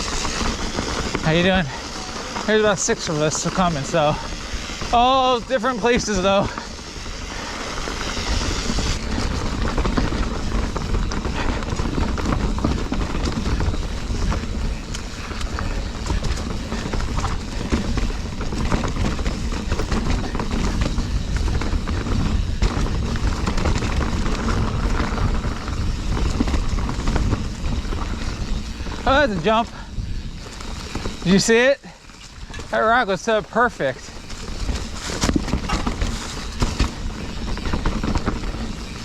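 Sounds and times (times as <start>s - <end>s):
bike tyres hitting rocks: 0.0s - 31.7s, 34.0s - 39.0s
chain and frame rattling: 0.0s - 39.0s
wind rumbling on microphone: 0.0s - 39.0s.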